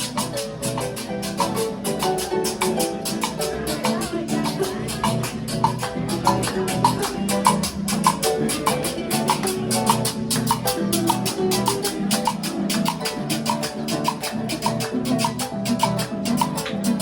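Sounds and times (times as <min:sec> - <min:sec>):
hand percussion rhythm: 0:00.0 - 0:17.0
plucked harp: 0:00.0 - 0:17.0.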